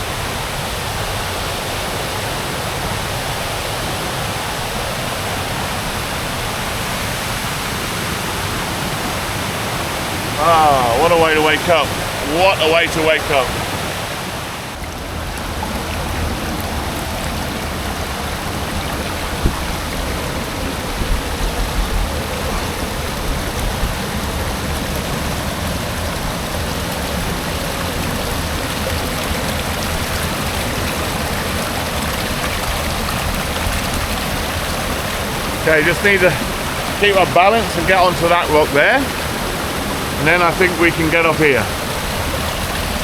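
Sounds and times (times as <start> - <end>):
water roaring over rocks: 0.0 - 43.0.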